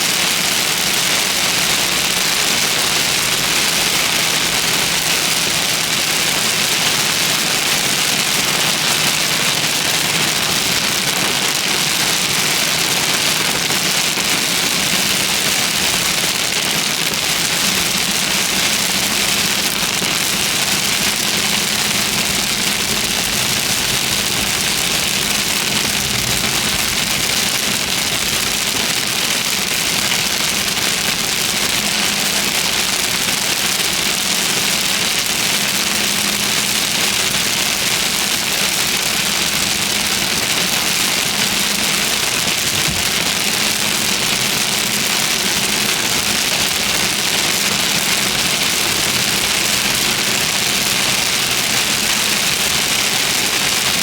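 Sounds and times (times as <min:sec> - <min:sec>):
heavy rain on a car: 0:00.0 - 0:54.0
faint low engine hum: 0:00.7 - 0:54.0.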